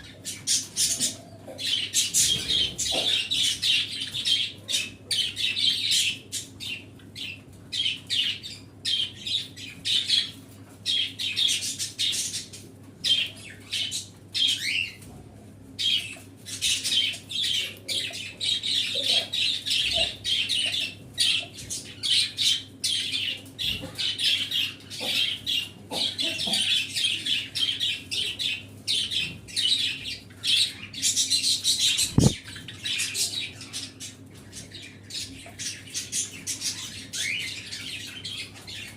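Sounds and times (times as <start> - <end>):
small birds chirping: 0.0 - 15.1, 15.7 - 38.9.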